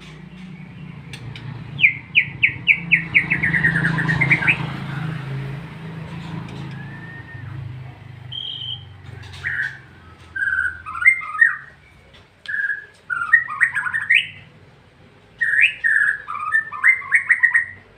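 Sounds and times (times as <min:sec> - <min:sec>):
bird singing whistled notes: 0:00.4 - 0:04.7, 0:06.6 - 0:14.5, 0:15.4 - 0:17.8.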